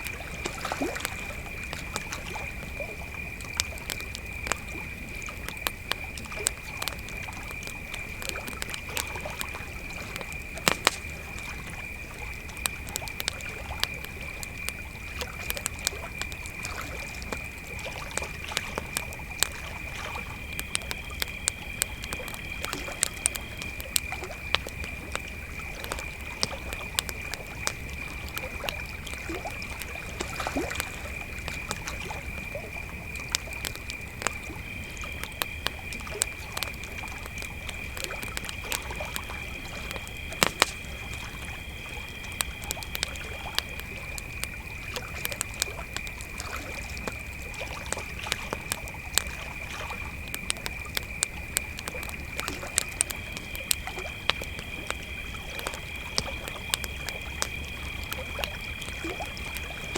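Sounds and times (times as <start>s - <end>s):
campfire crackling and popping: 0.0s - 59.9s
crickets trilling: 0.0s - 59.9s
higher-pitched cricket: 0.0s - 59.9s.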